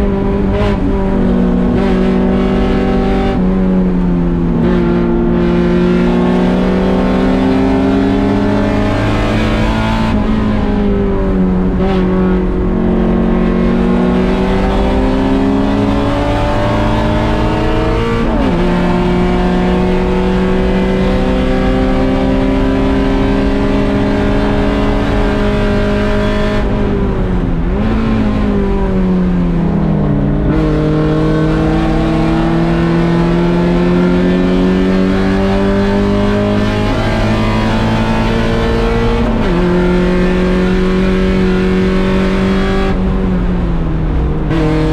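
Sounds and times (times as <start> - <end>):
race car engine accelerating: 0.0 - 44.9.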